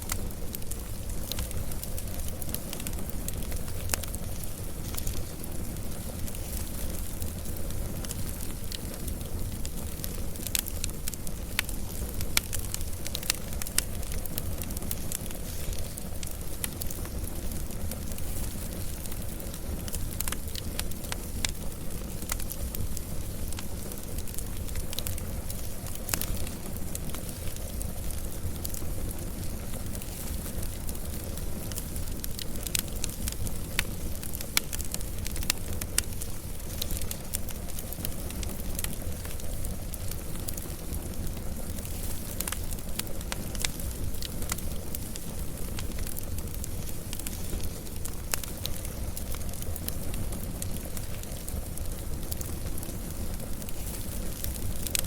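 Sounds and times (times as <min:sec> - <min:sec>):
burning logs crackling and popping: 0:00.0 - 0:55.0
fire flames rumbling: 0:00.0 - 0:55.0.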